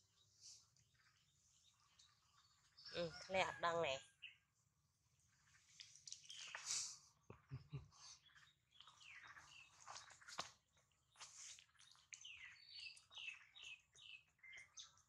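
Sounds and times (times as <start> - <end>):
faint bird chirping: 0.0 - 4.5, 5.2 - 15.0.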